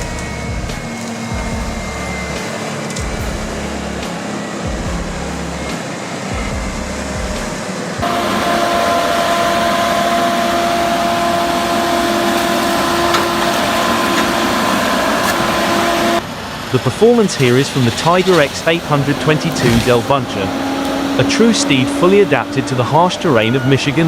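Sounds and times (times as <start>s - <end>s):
machine whine: 0.0s - 24.0s
wood-cutting machinery running: 0.0s - 24.0s.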